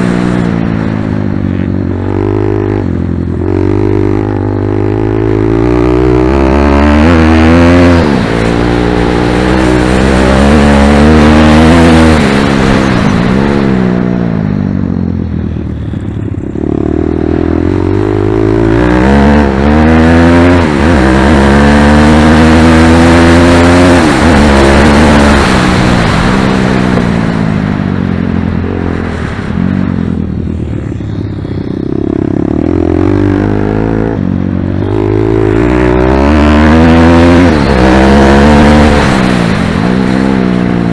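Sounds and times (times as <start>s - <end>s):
pit bike engine revving: 0.0s - 14.4s, 15.4s - 40.9s.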